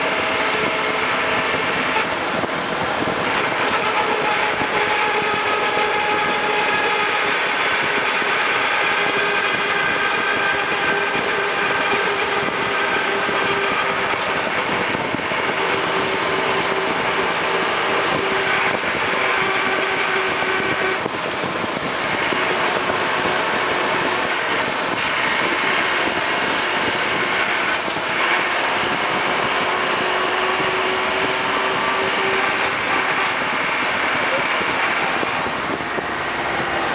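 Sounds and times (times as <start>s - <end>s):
engine whine: 0.0s - 36.9s
vehicle mechanical drone: 0.0s - 36.9s.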